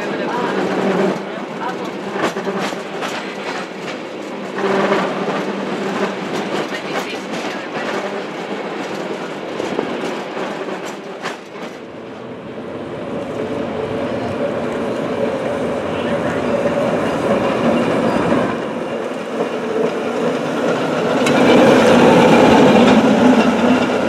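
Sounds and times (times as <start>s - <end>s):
cable car rattling on rails: 0.0s - 12.3s, 13.1s - 24.0s.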